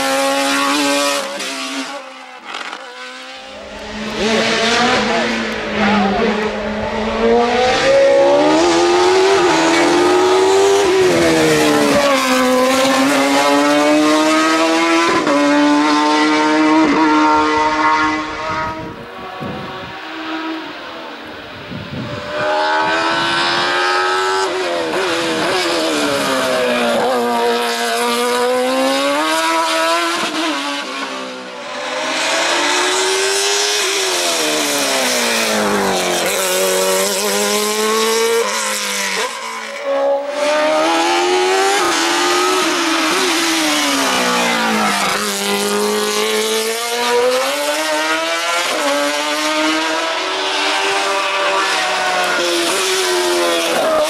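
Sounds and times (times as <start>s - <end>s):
racing car engine revving: 0.0s - 21.4s, 22.0s - 54.0s.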